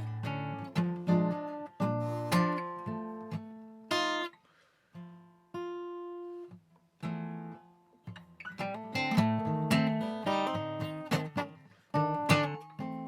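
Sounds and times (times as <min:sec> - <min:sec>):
blues guitar playing: 0:00.0 - 0:04.3, 0:05.1 - 0:13.0.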